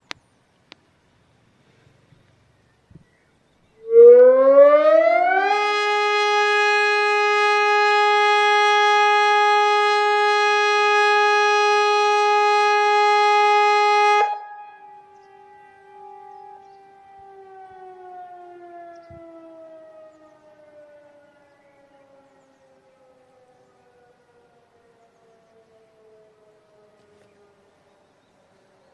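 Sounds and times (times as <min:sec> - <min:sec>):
civil defence siren: 0:03.8 - 0:28.9.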